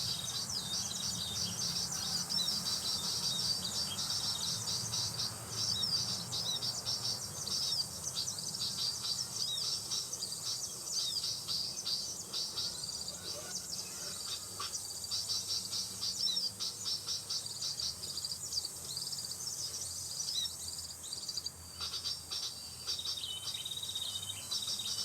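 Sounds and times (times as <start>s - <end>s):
high insect buzz: 0.0s - 25.0s
small birds chirping: 0.0s - 25.0s.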